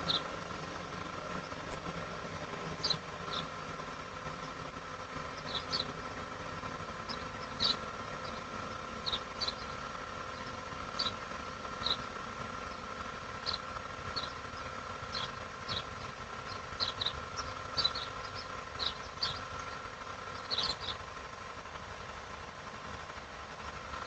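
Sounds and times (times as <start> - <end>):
small birds chirping: 0.0 - 24.0
steady background hum: 0.0 - 24.0.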